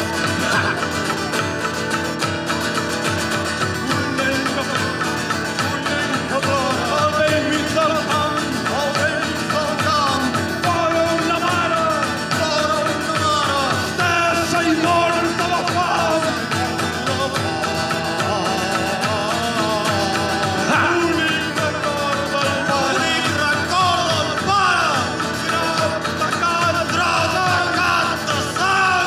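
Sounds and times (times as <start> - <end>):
guitar: 0.0 - 29.0
person singing: 0.0 - 29.0
steady beat: 0.0 - 29.0.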